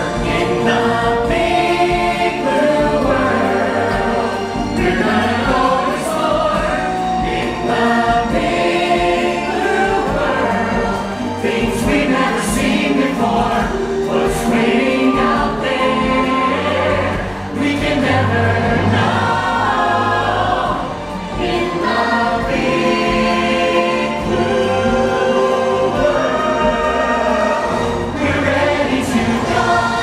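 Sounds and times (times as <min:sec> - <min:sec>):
ensemble singing in chorus: 0:00.0 - 0:30.0
instrumental music: 0:00.0 - 0:30.0.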